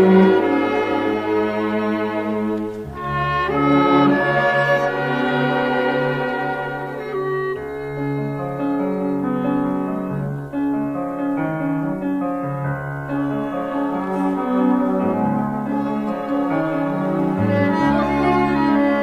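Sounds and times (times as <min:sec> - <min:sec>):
instrumental music with held notes: 0:00.0 - 0:19.0.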